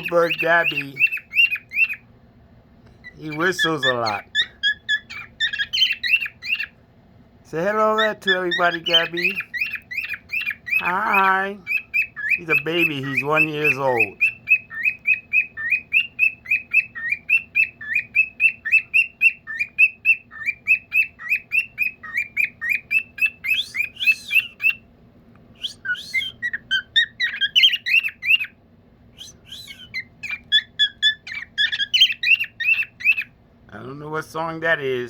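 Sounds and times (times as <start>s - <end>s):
bird chirping whistles: 0.0s - 2.1s, 3.0s - 6.8s, 8.0s - 24.8s, 25.5s - 33.4s
varied bird chirps and whistles: 0.0s - 35.0s.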